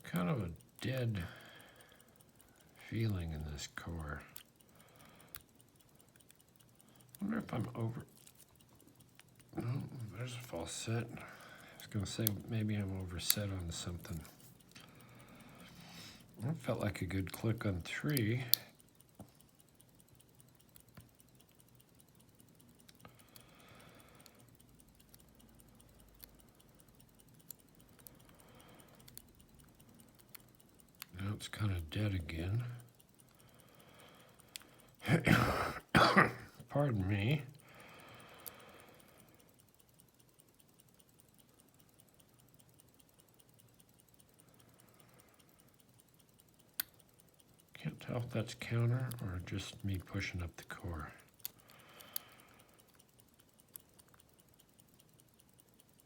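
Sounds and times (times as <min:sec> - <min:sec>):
lock pick working padlock pins: 0:00.0 - 0:33.7, 0:38.3 - 0:56.0
faint even ticking: 0:00.0 - 0:56.0.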